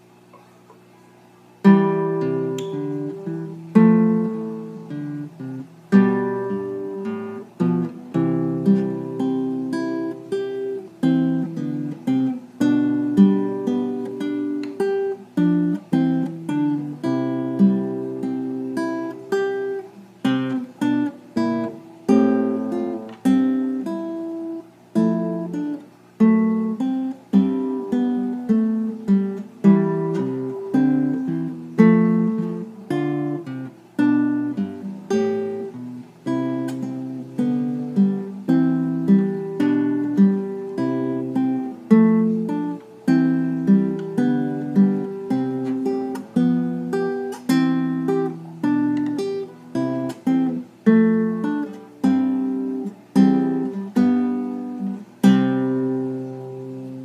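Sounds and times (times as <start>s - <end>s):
classical guitar fingerstyle: 0.0s - 57.0s.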